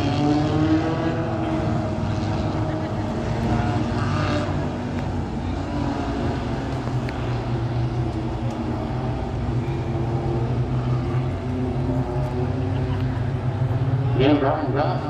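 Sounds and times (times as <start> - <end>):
race car engines idling: 0.0 - 15.0.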